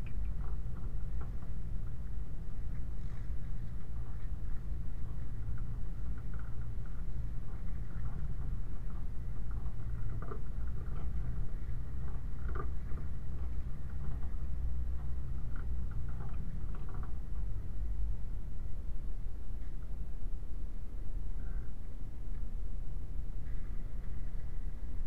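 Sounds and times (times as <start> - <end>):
vehicle rumbling: 0.0 - 25.0.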